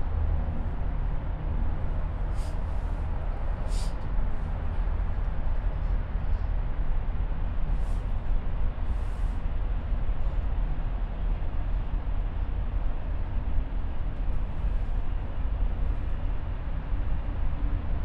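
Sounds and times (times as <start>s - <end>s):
aerial tram rumble and hum: 0.0s - 18.0s.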